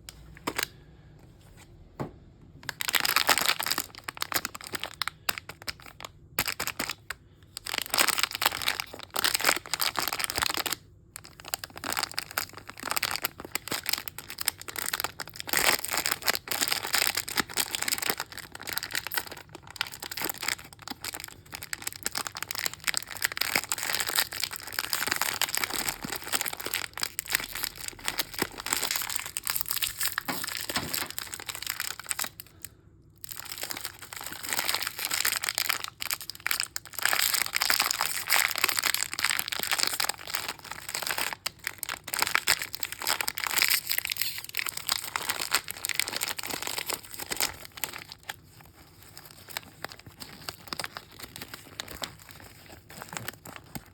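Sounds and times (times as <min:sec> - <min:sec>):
plastic packaging crinkling: 0:00.3 - 0:00.8, 0:02.6 - 0:53.9.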